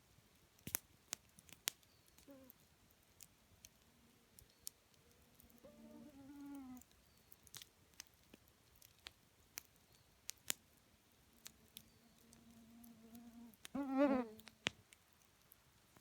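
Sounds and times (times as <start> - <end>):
campfire wood crackling: 0.0 - 16.0.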